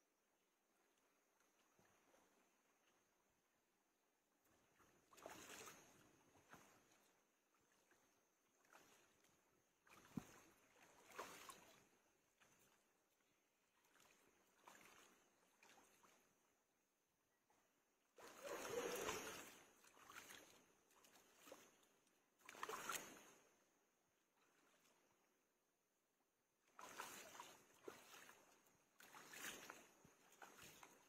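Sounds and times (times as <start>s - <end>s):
water splashing and sloshing: 0.4s - 31.0s.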